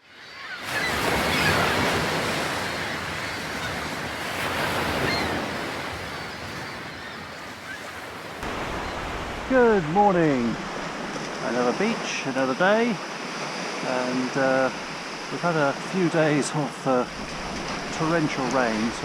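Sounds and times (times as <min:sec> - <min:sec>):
sea waves breaking on beach: 0:00.2 - 0:19.0.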